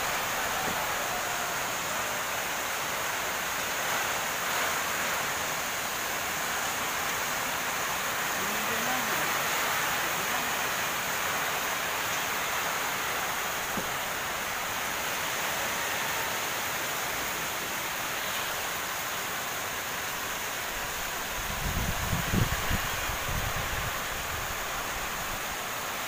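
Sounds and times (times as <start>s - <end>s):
rain hissing: 0.0s - 26.0s
wind: 0.0s - 26.0s.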